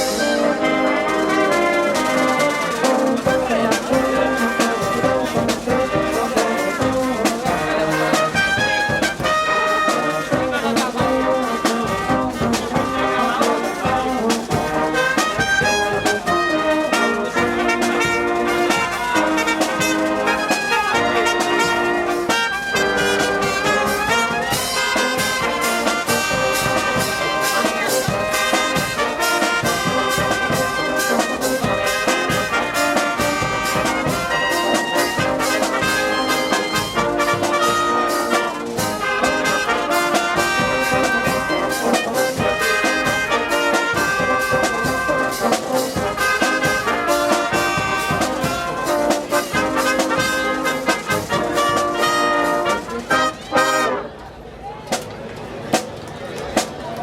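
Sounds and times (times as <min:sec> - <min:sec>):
brass band playing: 0:00.0 - 0:54.4.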